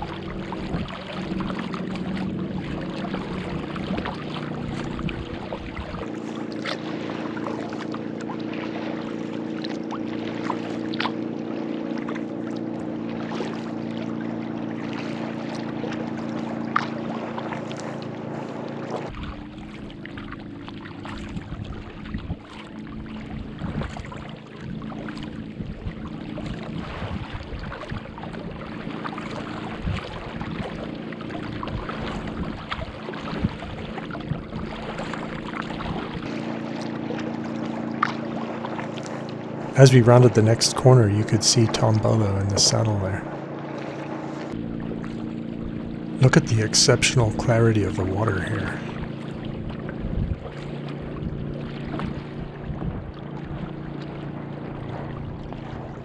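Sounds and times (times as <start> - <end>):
paddle splashing in water: 0.0 - 56.0.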